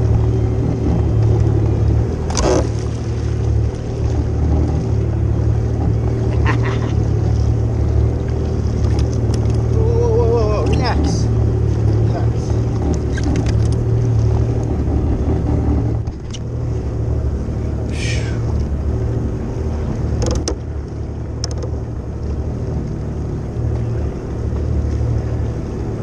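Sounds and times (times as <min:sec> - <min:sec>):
jet ski engine running: 0:00.0 - 0:26.0.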